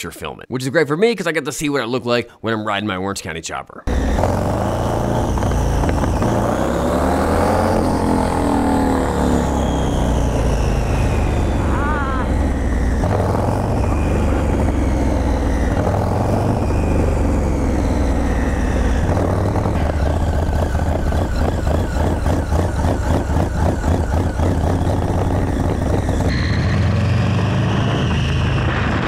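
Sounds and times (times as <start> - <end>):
motorcycle engine rumble: 3.9 - 27.2
second motorcycle engine pulsing: 3.9 - 29.0.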